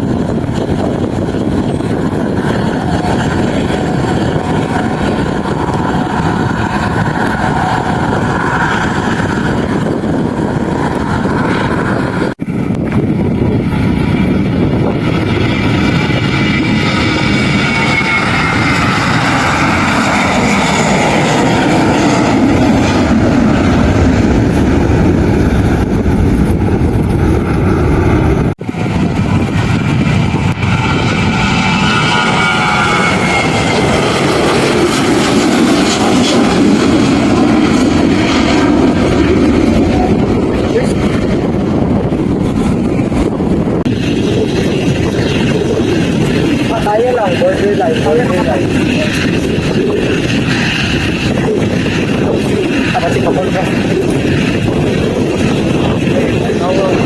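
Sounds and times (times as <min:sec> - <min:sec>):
airliner engines roaring: 0:00.0 - 0:57.0.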